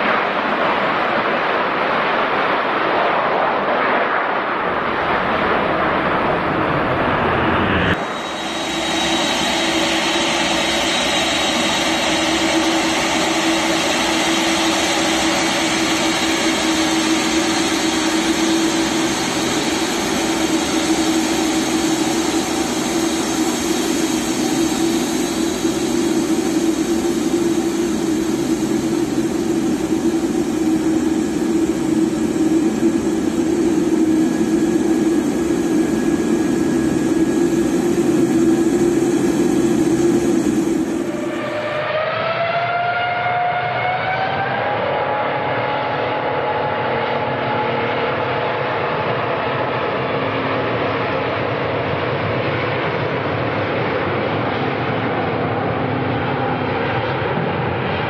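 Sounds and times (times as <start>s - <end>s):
jet engines at taxi power: 0.0s - 58.0s.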